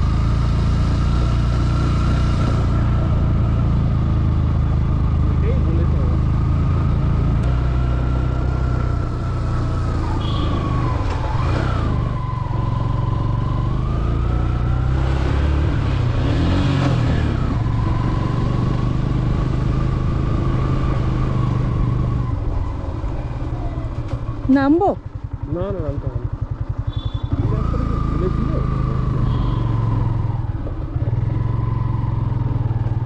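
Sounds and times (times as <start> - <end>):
motorcycle engine under load: 0.0 - 33.0.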